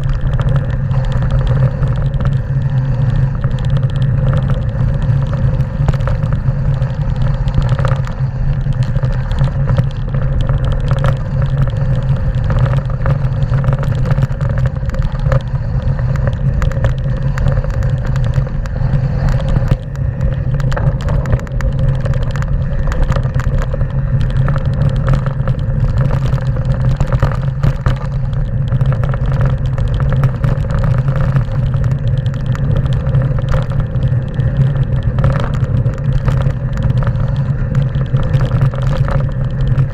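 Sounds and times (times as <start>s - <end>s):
bike rattling: 0.0s - 39.9s
bike tyres rumbling over gravel: 0.0s - 39.9s
wind on camera: 0.0s - 39.9s.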